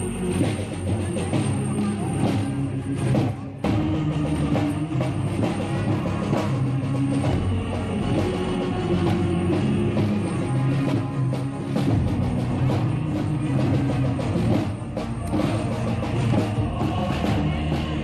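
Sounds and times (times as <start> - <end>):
music with heavy drum beat: 0.0 - 18.0.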